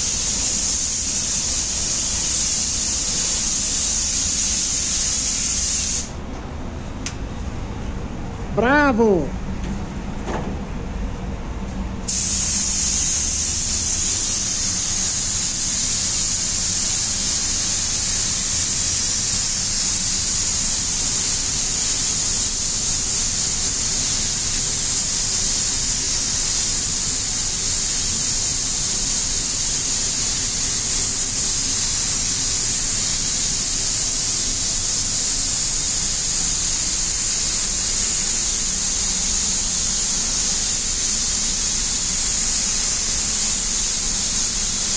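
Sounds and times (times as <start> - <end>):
paint spray gun hissing: 0.0 - 6.2, 12.0 - 44.9.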